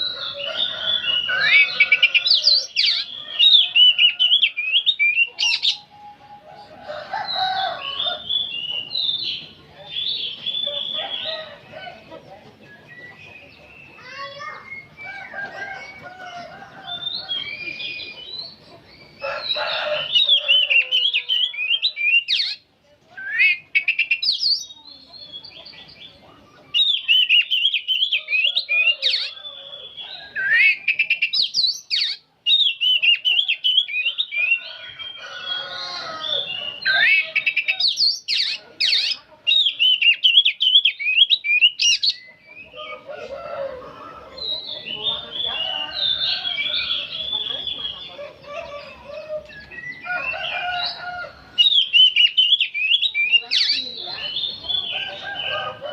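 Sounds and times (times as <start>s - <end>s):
bird singing chattering song: 0.0s - 43.2s, 44.2s - 55.9s.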